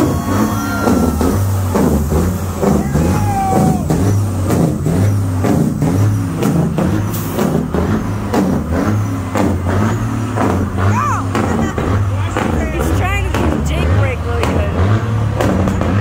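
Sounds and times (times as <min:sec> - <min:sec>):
truck diesel engine passing: 0:00.0 - 0:16.0.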